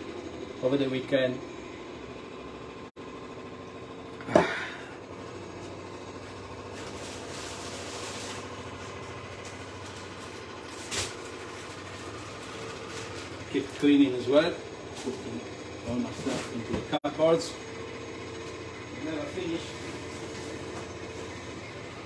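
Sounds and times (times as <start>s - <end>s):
electrical appliance hum: 0.0s - 22.0s.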